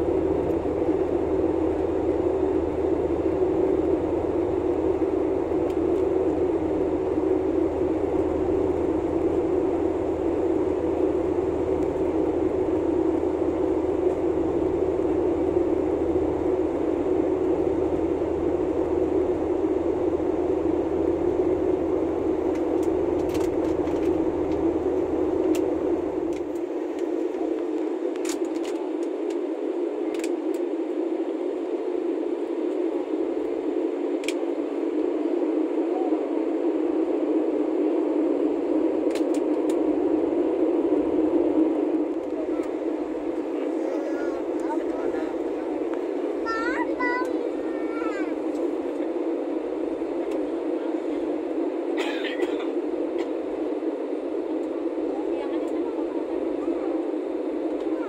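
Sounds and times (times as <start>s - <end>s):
jet engine roar in cabin: 0.0s - 58.0s.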